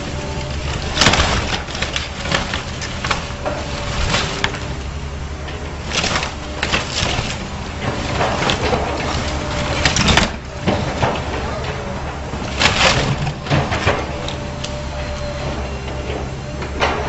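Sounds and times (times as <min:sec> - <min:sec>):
building cracking and crunching: 0:00.0 - 0:17.0
demolition machine engine: 0:00.0 - 0:17.0.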